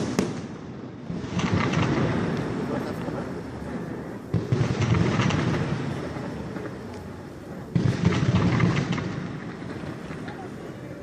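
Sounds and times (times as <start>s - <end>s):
fireworks bursting: 0.0s - 11.0s
fireworks crackling and rumbling: 0.0s - 11.0s.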